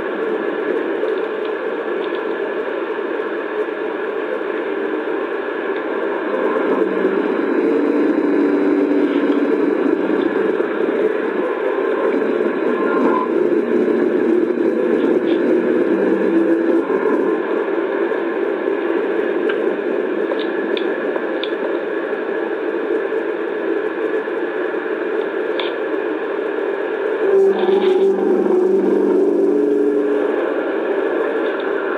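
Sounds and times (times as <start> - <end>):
low droning hum: 0.0 - 31.9.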